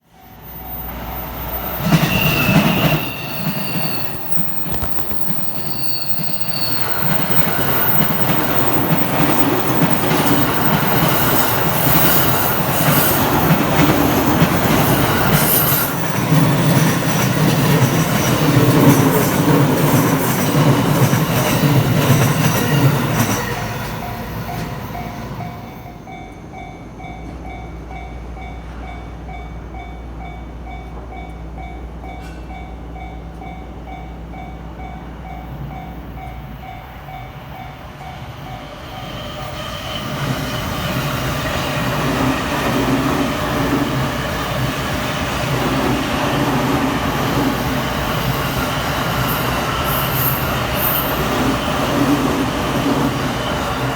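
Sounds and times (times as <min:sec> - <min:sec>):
train wheel squeal: 0:00.0 - 0:30.3, 0:34.8 - 0:53.9
electric train passing: 0:00.0 - 0:53.9.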